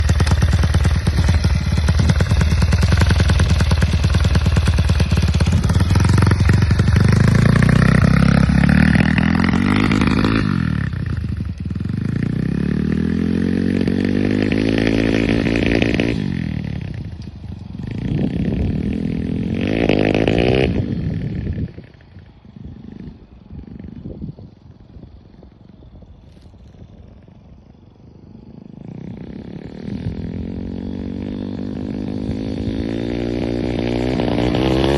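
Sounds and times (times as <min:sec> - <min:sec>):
dirt bike engine revving: 0:00.0 - 0:24.4, 0:28.4 - 0:34.9.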